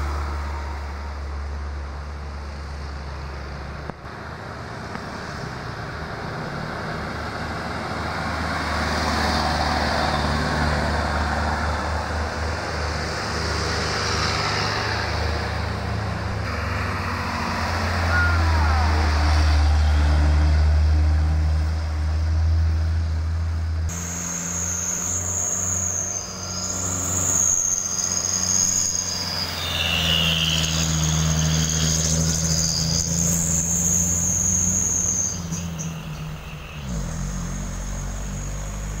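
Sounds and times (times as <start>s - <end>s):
heavy truck engine drone: 0.0s - 39.0s
smaller truck humming past: 0.0s - 39.0s.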